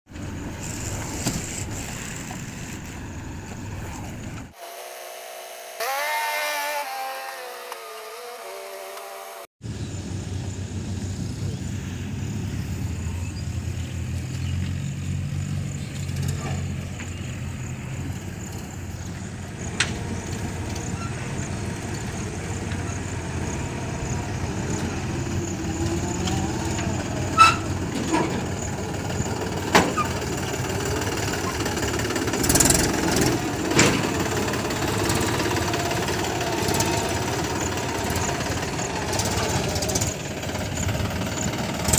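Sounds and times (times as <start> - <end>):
diesel engine running: 0.1 - 4.6, 9.6 - 41.9.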